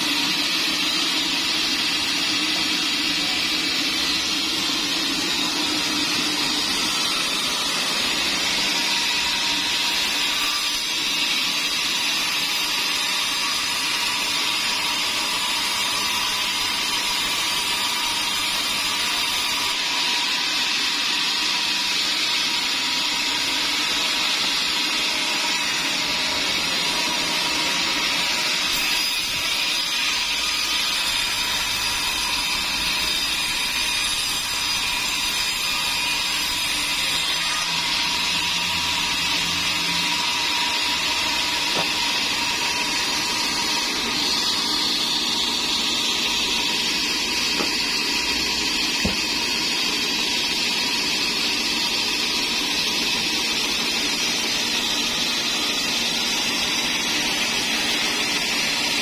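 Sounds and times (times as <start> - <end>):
band saw sawing a log: 0.0 - 59.0.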